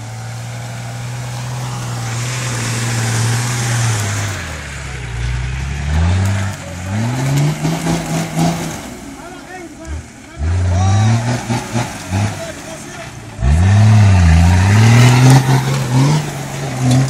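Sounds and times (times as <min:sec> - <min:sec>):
off-road engine revving: 0:00.0 - 0:17.0
tyres churning mud: 0:00.0 - 0:17.0.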